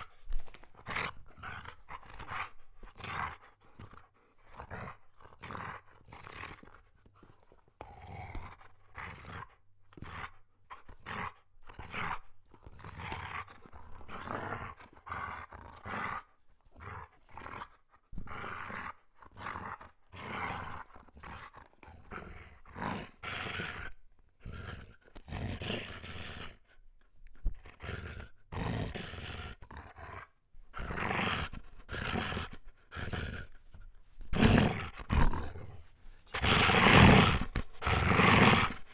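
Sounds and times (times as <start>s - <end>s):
dog growling: 0.0s - 26.7s, 27.3s - 38.9s.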